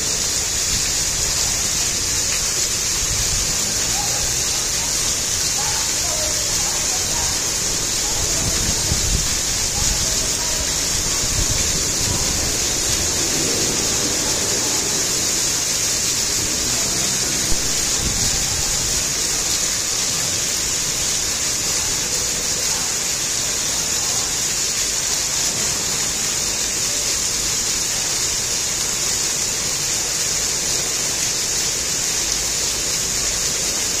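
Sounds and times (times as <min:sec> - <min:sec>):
fountain water splashing: 0:00.0 - 0:34.0.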